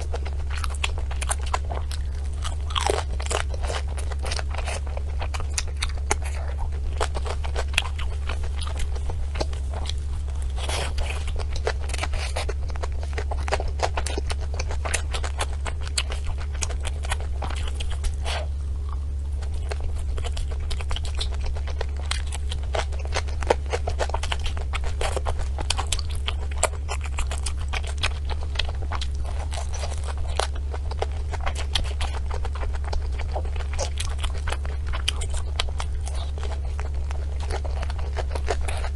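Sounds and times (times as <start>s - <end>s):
chewing with crunches and clicks: 0.0s - 38.9s
steady low hum: 0.0s - 38.9s.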